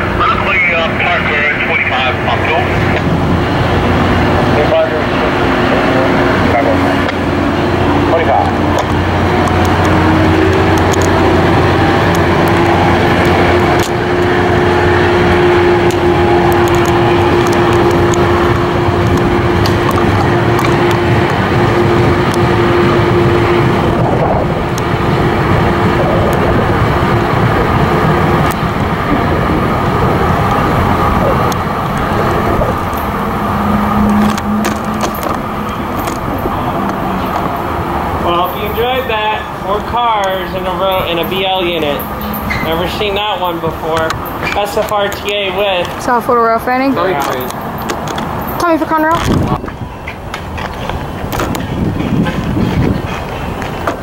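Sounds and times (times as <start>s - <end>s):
low hum: 0.0s - 54.0s
steady hum: 0.0s - 54.0s
train rumbling along track: 0.0s - 54.0s.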